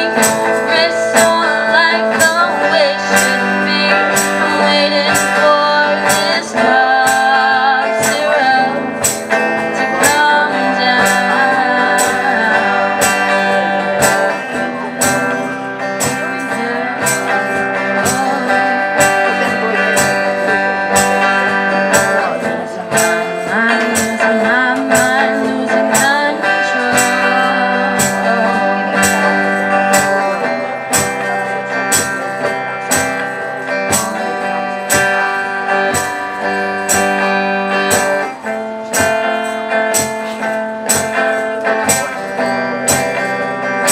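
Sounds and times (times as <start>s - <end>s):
electric guitars sustained chords: 0.0s - 43.9s
steady percussion beat: 0.0s - 43.9s.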